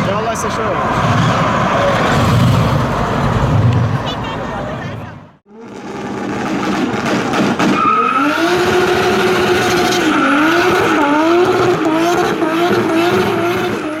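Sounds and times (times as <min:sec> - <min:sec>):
car engine revving hard: 0:00.0 - 0:04.2, 0:05.5 - 0:14.0.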